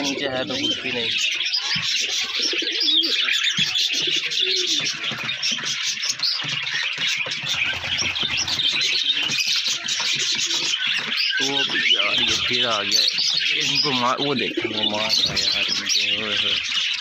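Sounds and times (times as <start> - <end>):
dense chirping of birds: 0.0 - 17.0
pigeons cooing: 0.0 - 17.0.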